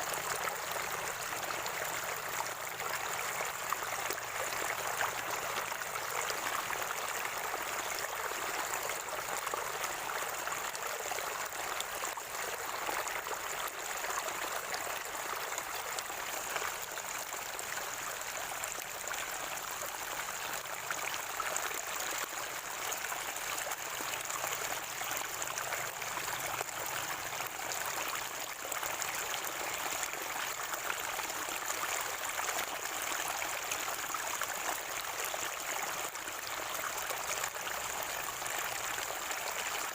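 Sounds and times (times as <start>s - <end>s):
spring water flowing and gurgling: 0.0s - 39.9s.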